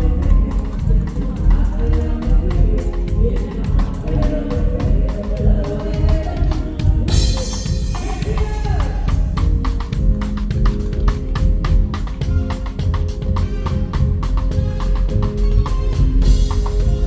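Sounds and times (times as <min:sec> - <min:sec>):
hi-hat beat: 0:00.0 - 0:17.0
live reggae band: 0:00.0 - 0:17.0.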